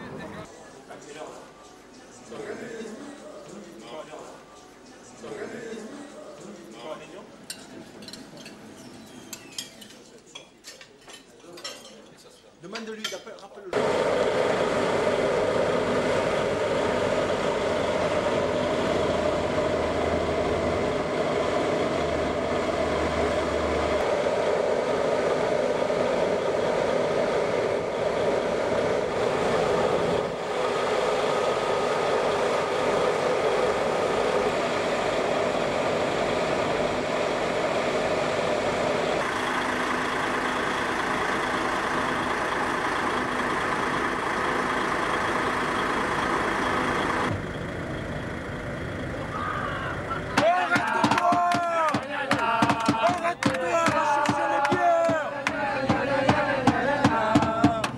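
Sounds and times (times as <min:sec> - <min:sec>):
coach engine and road noise: 0:00.0 - 0:06.6, 0:13.7 - 0:57.9.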